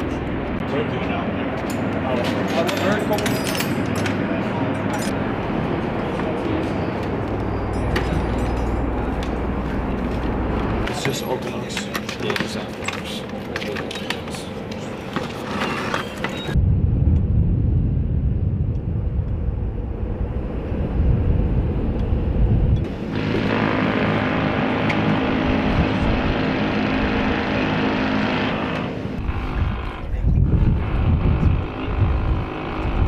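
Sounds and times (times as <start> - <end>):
helicopter rumble and whine: 0.0 - 33.0.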